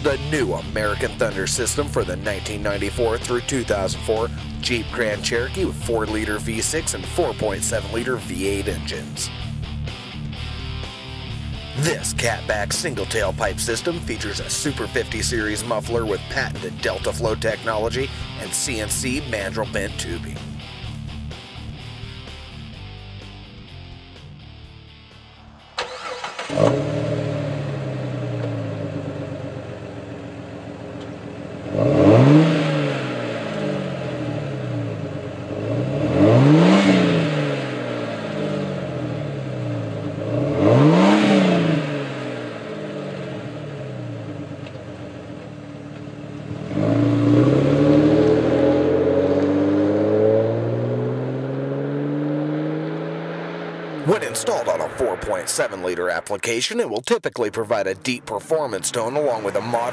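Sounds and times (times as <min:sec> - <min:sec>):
car engine exhaust idling and revving: 0:00.0 - 0:56.4.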